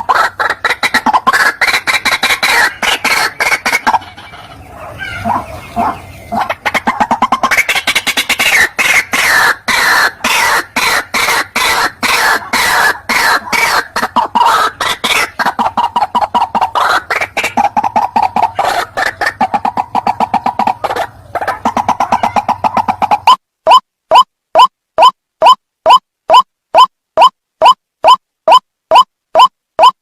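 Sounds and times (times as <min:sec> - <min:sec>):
bird croaking calls: 0:00.0 - 0:25.6.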